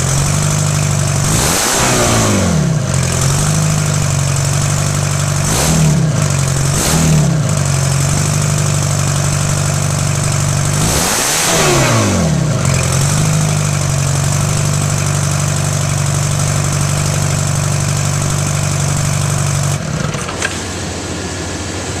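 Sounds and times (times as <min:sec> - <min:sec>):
diesel engine idling and revving: 0:00.0 - 0:22.0.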